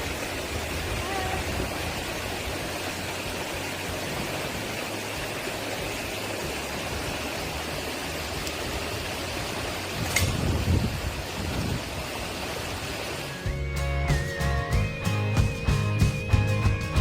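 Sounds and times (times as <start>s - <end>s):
mountain stream running: 0.0s - 17.0s.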